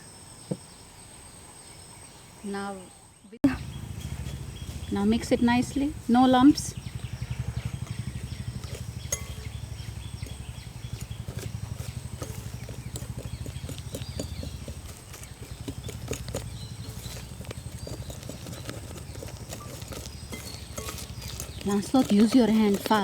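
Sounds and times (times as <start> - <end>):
hand whisk beating batter: 3.9 - 23.0.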